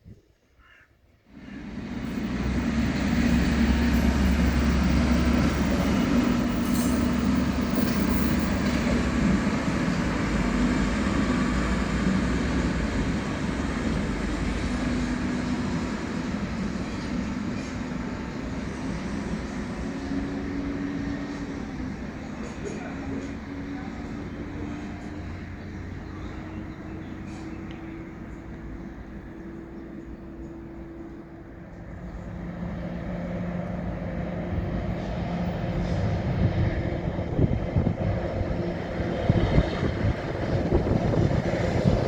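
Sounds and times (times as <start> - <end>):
train passing rumble: 1.3 - 42.0.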